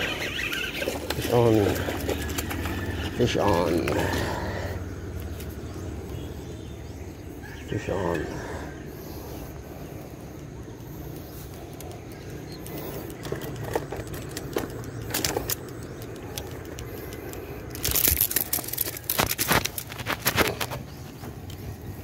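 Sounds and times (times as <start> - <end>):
rustling and crackling on bank: 0.0 - 7.4, 8.0 - 22.0.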